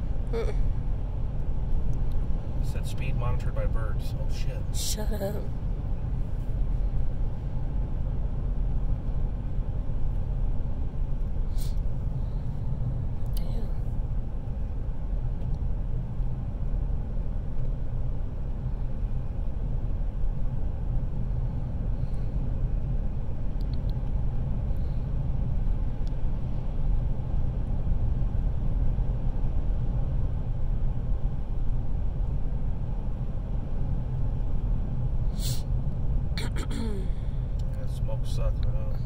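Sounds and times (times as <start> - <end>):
truck road and engine rumble: 0.0 - 39.0.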